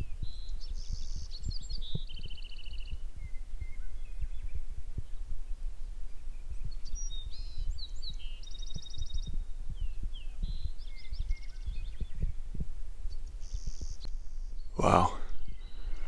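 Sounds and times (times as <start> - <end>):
songbirds singing: 0.0 - 16.0
wind buffeting microphone: 0.0 - 16.0.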